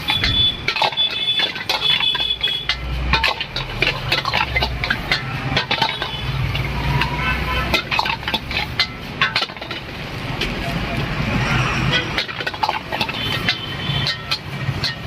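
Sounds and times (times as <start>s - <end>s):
metal spatula scraping a wok: 0.0s - 15.0s.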